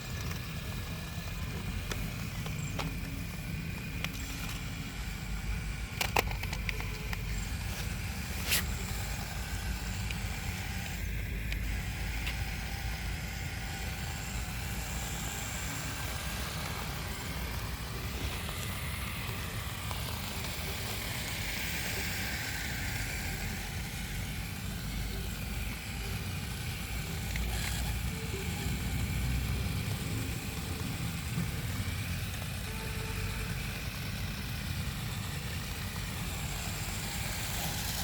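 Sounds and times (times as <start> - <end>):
vehicle running with low rumble: 0.0 - 38.0.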